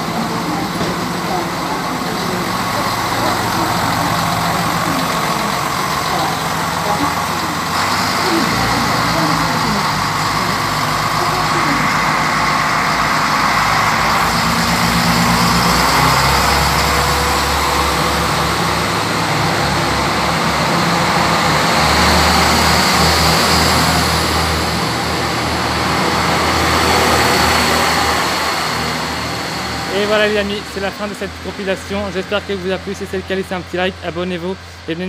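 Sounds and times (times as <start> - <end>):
diesel railcar engines under load: 0.0 - 35.0.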